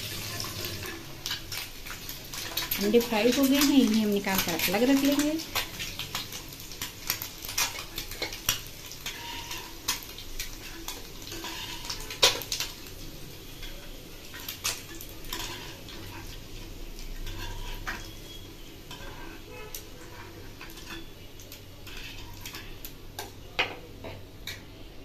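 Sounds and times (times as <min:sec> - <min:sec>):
metal spatula scraping frying pan: 0:00.0 - 0:13.0, 0:13.6 - 0:21.2, 0:21.8 - 0:22.8.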